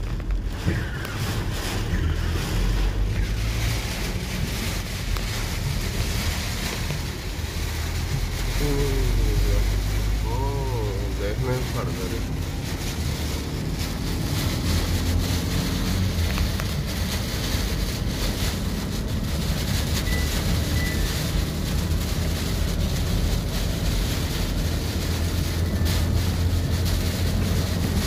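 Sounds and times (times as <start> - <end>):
car rumbling on wet road: 0.0 - 28.0
heavy rain on a car: 0.0 - 28.0.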